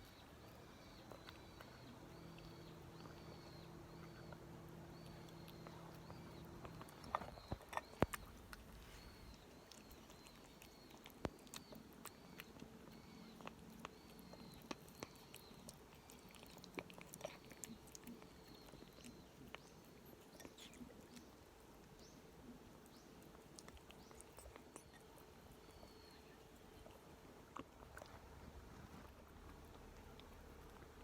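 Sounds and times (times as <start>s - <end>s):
cat chewing and lapping: 0.0s - 31.0s.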